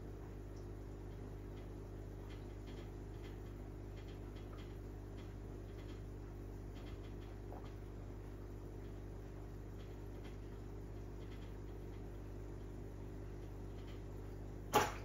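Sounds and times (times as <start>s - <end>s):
faint irregular ticks: 0.0s - 14.4s.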